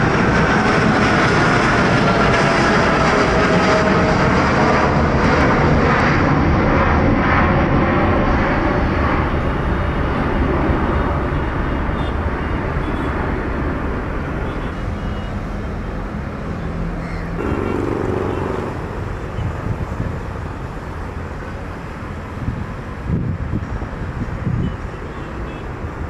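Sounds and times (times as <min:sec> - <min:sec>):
jet engine roar: 0:00.0 - 0:15.0, 0:15.6 - 0:23.0.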